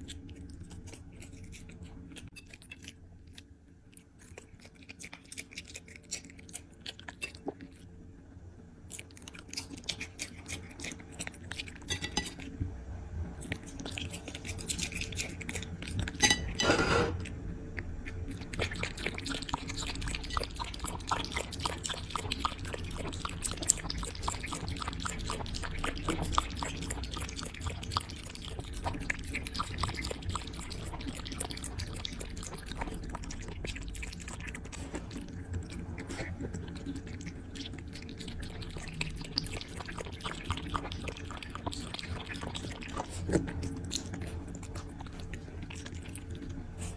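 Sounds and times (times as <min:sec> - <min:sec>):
puppy chewing and smacking: 0:00.0 - 0:08.0, 0:08.8 - 0:16.6, 0:17.8 - 0:46.9.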